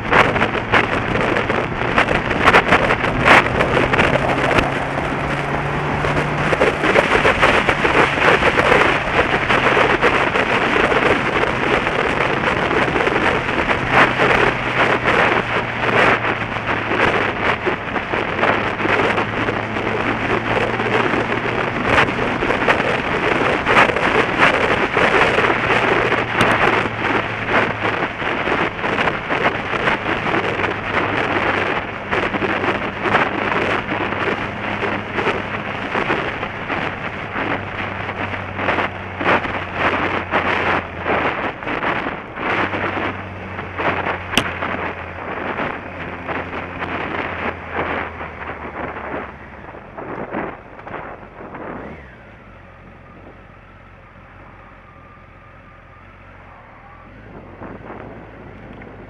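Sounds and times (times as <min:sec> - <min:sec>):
motorcycle engine hum: 0:00.0 - 0:59.0
wind buffeting microphone: 0:00.0 - 0:59.0.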